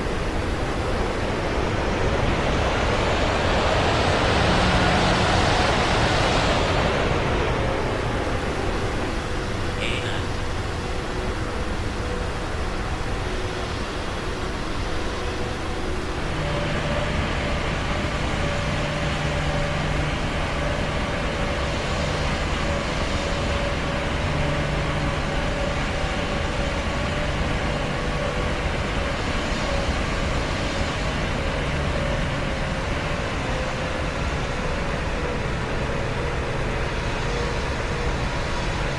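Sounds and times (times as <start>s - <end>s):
moving vehicle rush: 0.0s - 38.9s.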